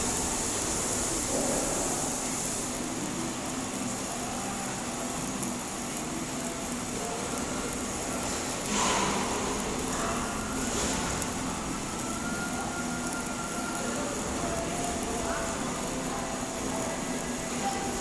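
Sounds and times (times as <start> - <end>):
welding arc hissing and crackling: 0.0 - 18.0.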